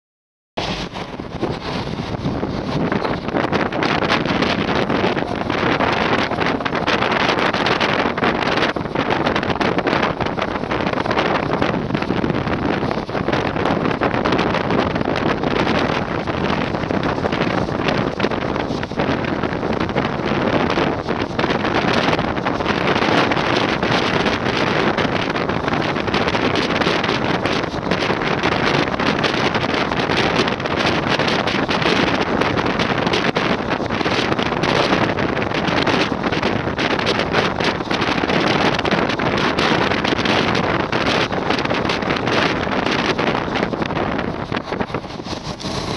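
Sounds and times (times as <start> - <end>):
train wheels on rails: 0.6 - 45.9
wind buffeting microphone: 0.6 - 45.9.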